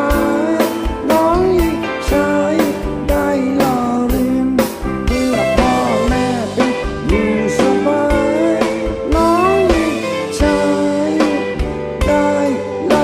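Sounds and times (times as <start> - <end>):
live rock band playing: 0.0 - 13.0
sliding guitar melody: 0.0 - 13.0
steady drum beat: 0.0 - 13.0.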